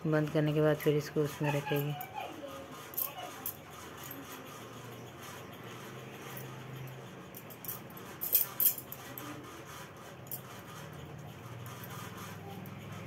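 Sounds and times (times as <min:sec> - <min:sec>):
bangles clinking: 0:01.2 - 0:13.0.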